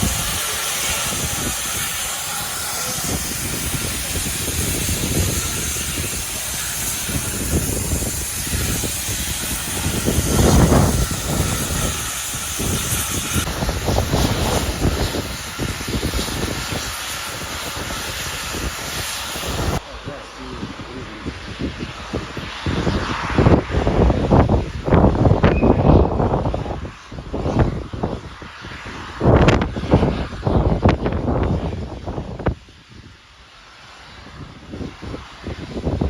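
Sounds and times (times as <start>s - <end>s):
low rumbling: 0.0s - 32.7s
steam hissing: 0.0s - 36.0s.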